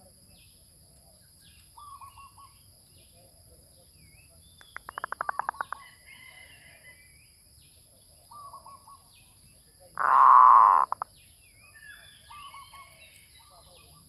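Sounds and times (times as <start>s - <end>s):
small birds chirping: 0.1s - 6.4s, 7.0s - 14.0s.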